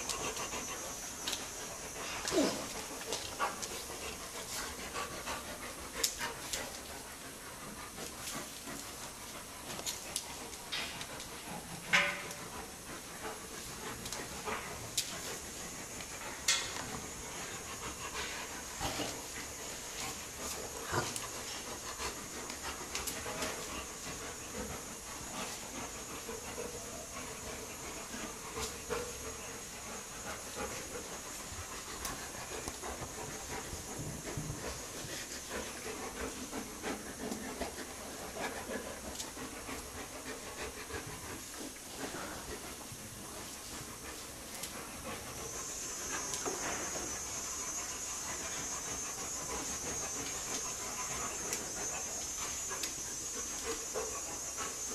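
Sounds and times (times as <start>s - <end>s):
animals panting: 0.0s - 54.9s
steady hiss: 0.0s - 54.9s.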